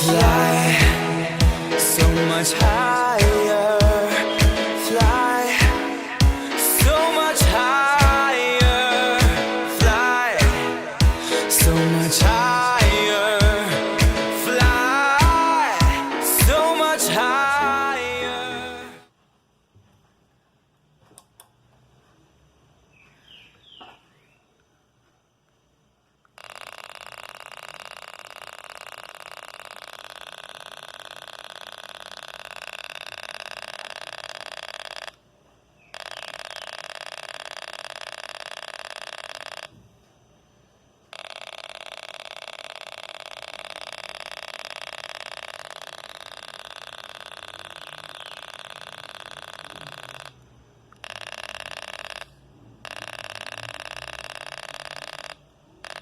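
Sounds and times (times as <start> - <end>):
harsh electronic buzz: 0.0 - 19.1, 26.4 - 35.2, 35.9 - 40.4, 41.1 - 56.0.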